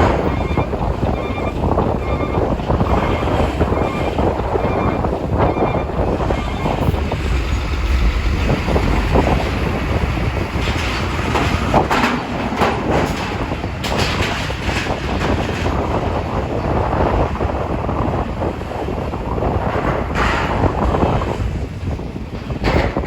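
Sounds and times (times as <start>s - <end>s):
ferry engine rumble: 0.0s - 23.0s
wind buffeting microphone: 0.0s - 23.0s.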